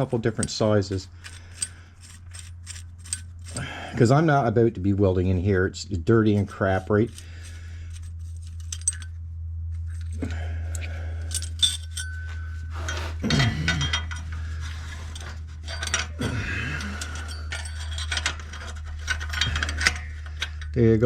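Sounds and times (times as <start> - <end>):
metal parts clinking and knocking: 0.0 - 3.7, 6.5 - 9.2, 9.8 - 20.8
steady low hum: 0.0 - 21.0.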